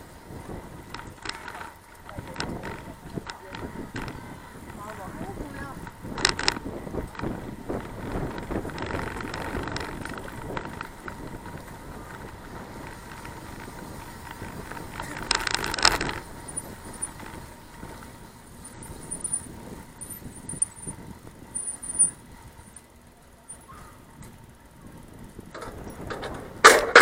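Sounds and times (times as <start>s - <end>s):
faint steady whine: 0.0s - 26.7s
bicycle clatter: 0.0s - 27.0s
bicycle rattling and clicking: 0.0s - 27.0s
road and wind rumble: 0.0s - 27.0s.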